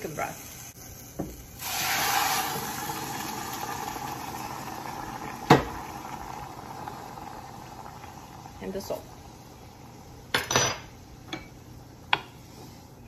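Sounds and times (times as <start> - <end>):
broth sizzling in hot pot: 0.0 - 13.0.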